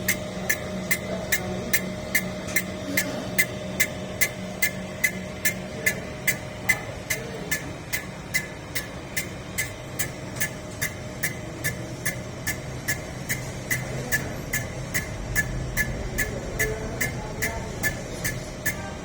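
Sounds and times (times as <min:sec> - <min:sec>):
machine humming: 0:00.0 - 0:19.0
machine ticking: 0:00.0 - 0:19.0.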